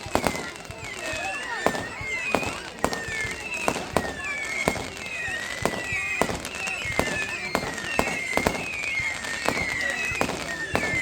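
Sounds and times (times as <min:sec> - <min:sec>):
fireworks bangs and cracks: 0:00.0 - 0:11.0
high wavering whistle: 0:00.0 - 0:11.0.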